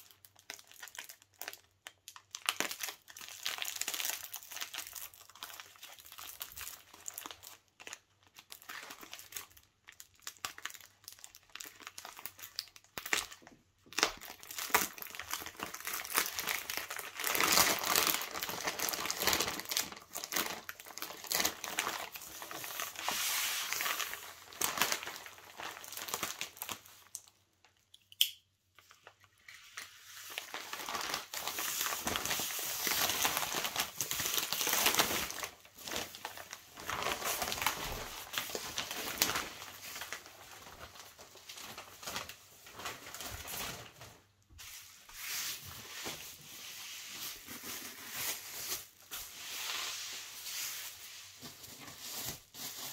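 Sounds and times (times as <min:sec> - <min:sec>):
plastic sheeting crinkling: 0:00.0 - 0:27.4, 0:28.9 - 0:52.9.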